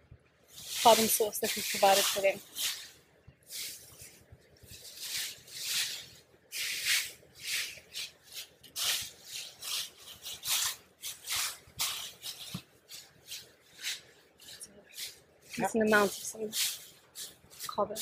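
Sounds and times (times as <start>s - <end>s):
shredded paper rustling: 0.5s - 18.0s.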